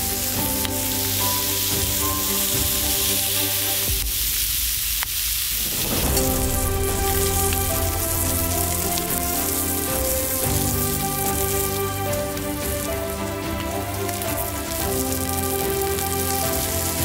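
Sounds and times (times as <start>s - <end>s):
slow background music: 0.0s - 4.4s, 5.8s - 17.0s.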